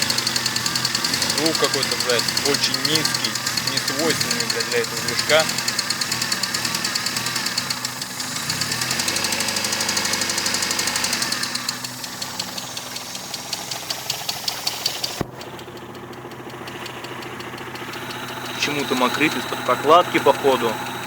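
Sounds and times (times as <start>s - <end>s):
car engine knocking: 0.0s - 21.0s.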